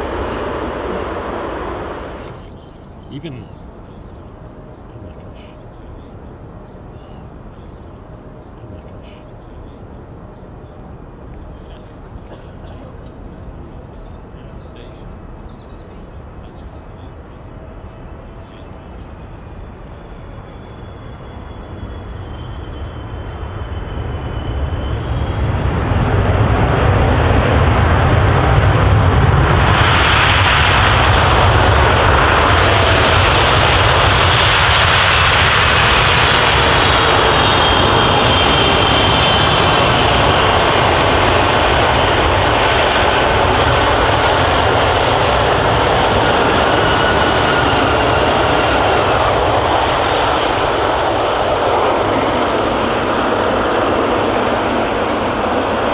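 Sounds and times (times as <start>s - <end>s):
faint engine whines gliding in pitch: 0.0s - 55.9s
jet engine roar: 0.0s - 55.9s.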